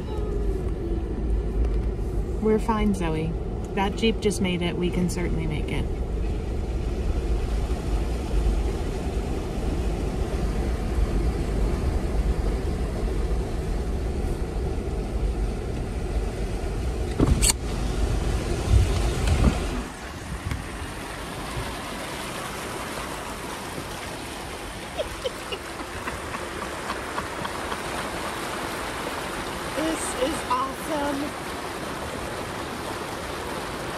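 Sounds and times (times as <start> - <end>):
vehicle engine rumble: 0.0 - 33.9
water washing around wheels: 5.9 - 33.9.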